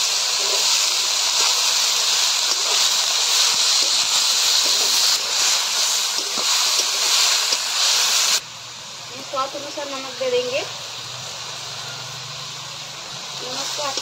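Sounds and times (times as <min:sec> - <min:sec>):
cabbage sizzling in hot oil: 0:00.0 - 0:14.0.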